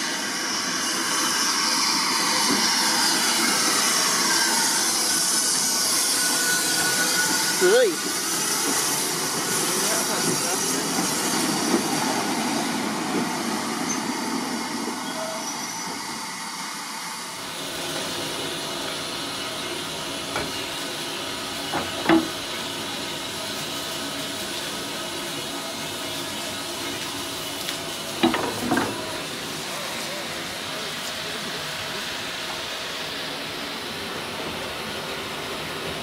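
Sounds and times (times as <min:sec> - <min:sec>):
steam locomotive hissing: 0:00.0 - 0:36.0.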